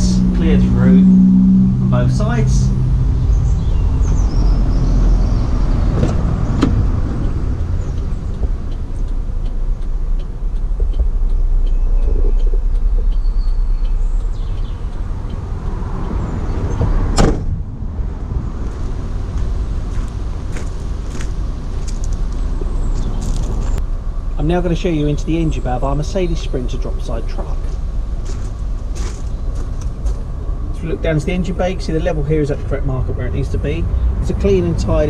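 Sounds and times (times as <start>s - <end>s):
outdoor vehicle rumble: 0.0s - 35.0s.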